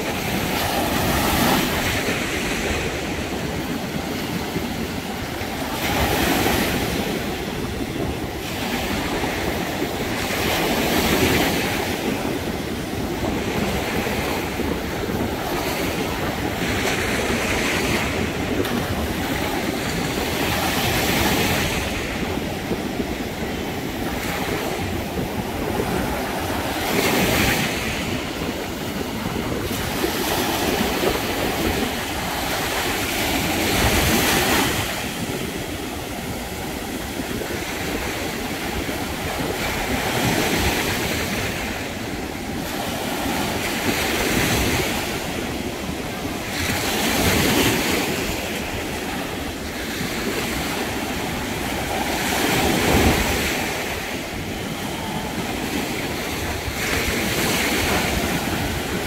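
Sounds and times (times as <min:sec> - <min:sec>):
ocean surf breaking on a beach: 0:00.0 - 0:59.0.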